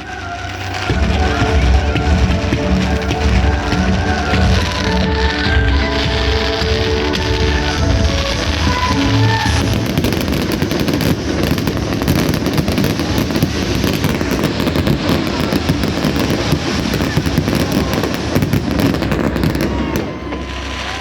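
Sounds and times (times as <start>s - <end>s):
fireworks crackling and banging: 0.0s - 21.0s.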